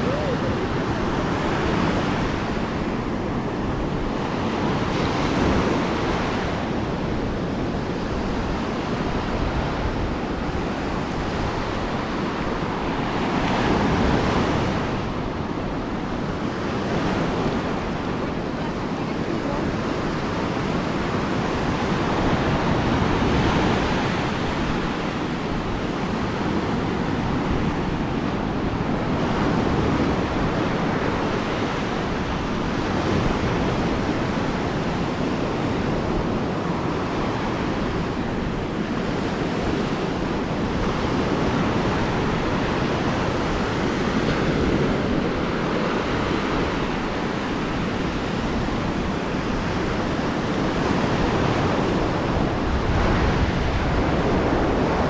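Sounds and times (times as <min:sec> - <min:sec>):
waves breaking on beach: 0:00.0 - 0:55.0
wind rumbling on microphone: 0:00.0 - 0:55.0.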